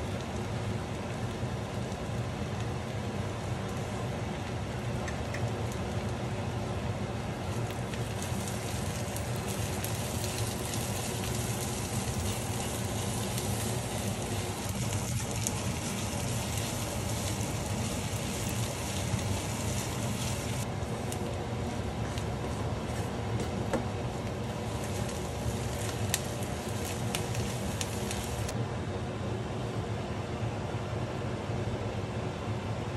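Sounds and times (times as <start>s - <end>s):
onion sizzling in frying pan: 0.0s - 28.5s
steady low hum: 0.0s - 32.9s.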